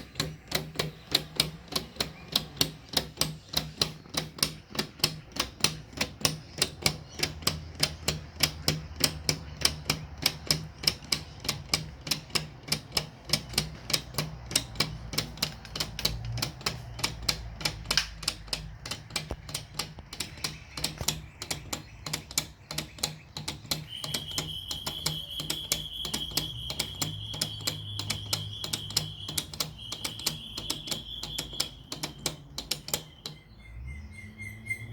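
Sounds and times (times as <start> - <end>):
plastic escapement ticking: 0.0 - 34.9.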